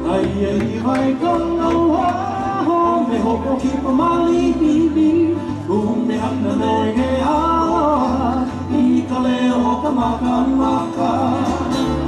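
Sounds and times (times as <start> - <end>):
guitars playing: 0.0 - 12.0
man singing: 0.0 - 12.0.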